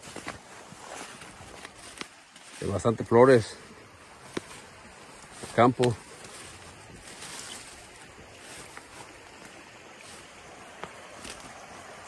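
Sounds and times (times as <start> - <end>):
river rushing over rocks: 2.1 - 12.0.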